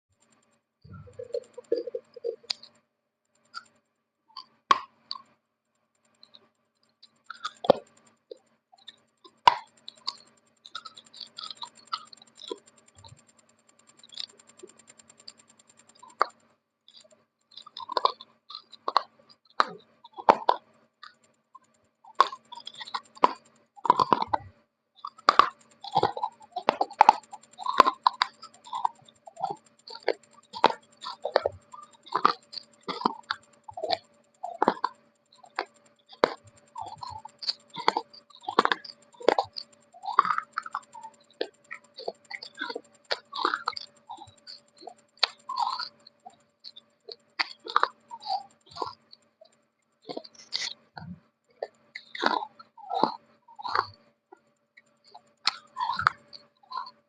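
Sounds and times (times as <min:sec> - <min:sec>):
crunchy chewing of dry clay: 0:00.2 - 0:02.8, 0:03.4 - 0:05.4, 0:06.0 - 0:57.0.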